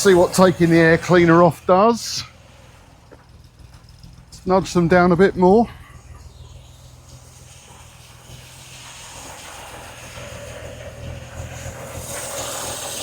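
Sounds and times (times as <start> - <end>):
car engine idling: 0.0 - 13.0
high whine: 0.0 - 13.0
hissing intake: 0.0 - 13.0.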